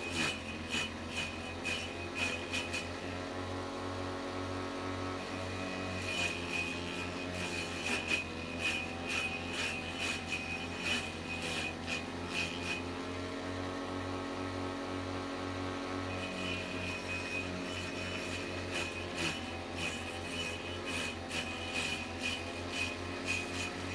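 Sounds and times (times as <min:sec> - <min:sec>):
electric motor spinning blade: 0:00.0 - 0:23.9.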